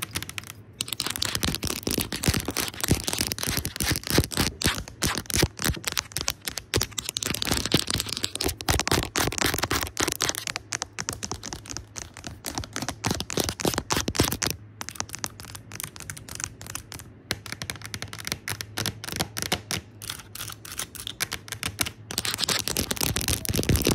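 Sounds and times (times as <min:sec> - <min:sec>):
faint low hum: 0:00.0 - 0:23.9
fast tapping on a screen: 0:00.0 - 0:23.9.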